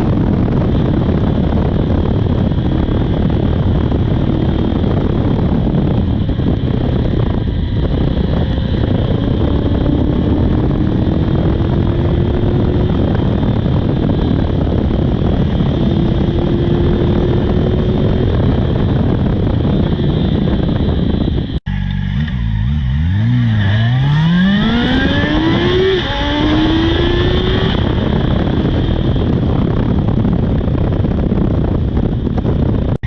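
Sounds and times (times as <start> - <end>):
motorcycle engine accelerating: 0.0 - 33.0
wind rushing over microphone: 0.0 - 33.0.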